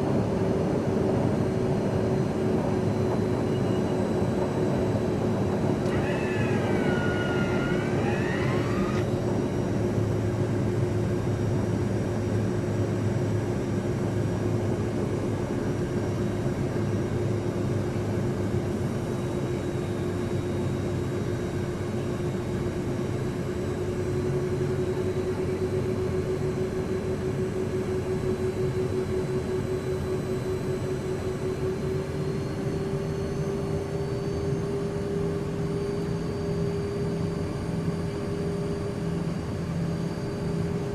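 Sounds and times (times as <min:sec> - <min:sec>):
constant whine: 0:00.0 - 0:40.9
jet engine drone: 0:00.0 - 0:40.9.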